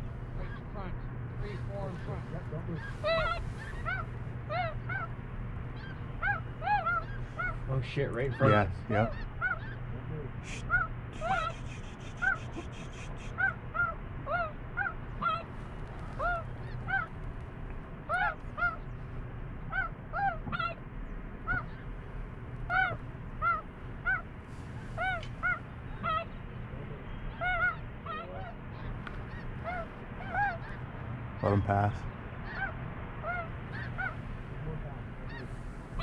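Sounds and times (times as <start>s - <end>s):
geese honking: 0.0s - 9.9s, 10.5s - 17.2s, 18.0s - 19.0s, 19.6s - 22.0s, 22.6s - 36.0s.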